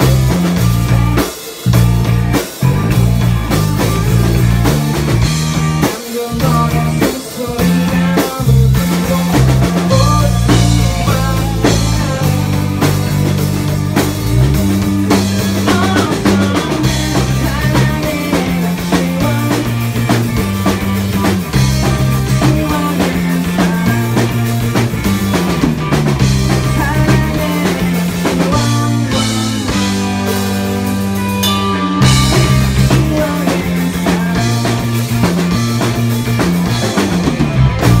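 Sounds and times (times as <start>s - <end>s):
electric bass: 0.0s - 38.0s
live rock band: 0.0s - 38.0s.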